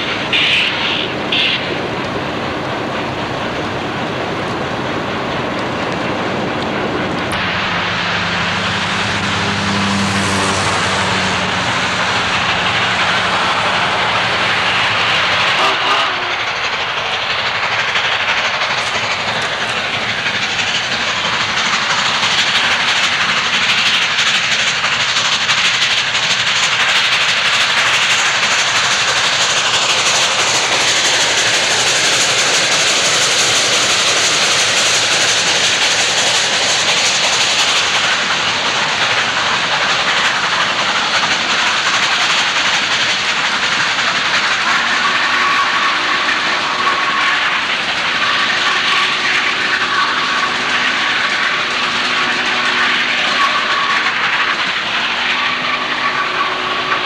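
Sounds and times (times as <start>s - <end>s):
steam locomotive passing: 0.0s - 57.0s.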